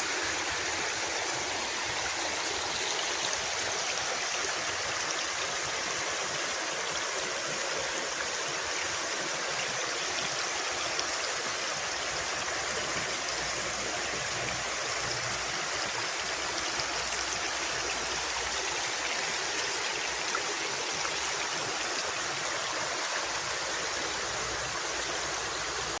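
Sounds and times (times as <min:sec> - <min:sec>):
water rushing over cascade: 0:00.0 - 0:26.0.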